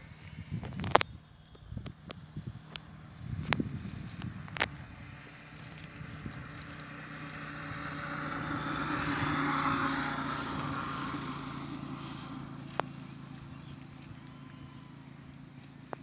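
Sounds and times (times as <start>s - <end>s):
vehicle engine passing by: 2.1s - 16.0s.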